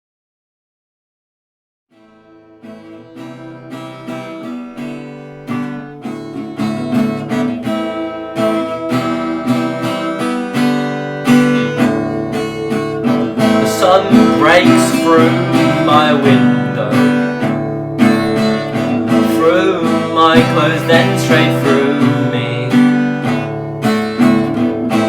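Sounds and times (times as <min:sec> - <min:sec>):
acoustic guitar strumming chords: 0:01.9 - 0:25.0.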